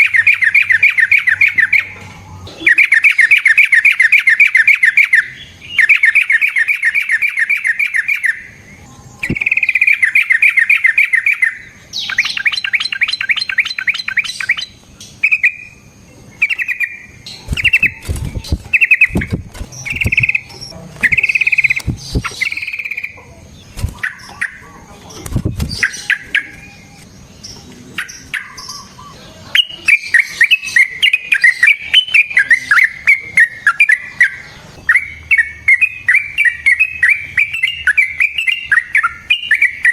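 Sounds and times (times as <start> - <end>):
bulbul singing chattering trills: 0.0 - 39.9.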